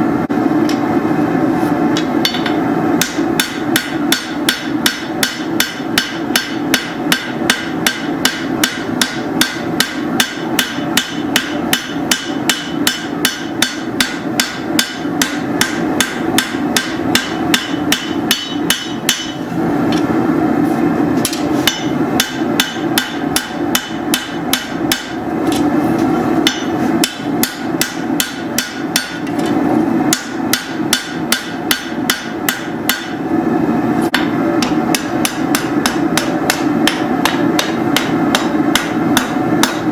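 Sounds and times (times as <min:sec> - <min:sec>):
hammer striking steel on anvil: 0:02.0 - 0:20.1, 0:21.2 - 0:33.2, 0:34.1 - 0:39.9.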